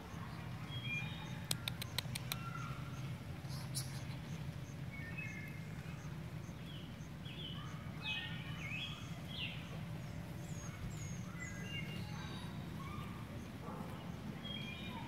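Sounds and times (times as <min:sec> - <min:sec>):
low background hum: 0:00.0 - 0:15.0
birds chirping and singing: 0:00.1 - 0:15.0.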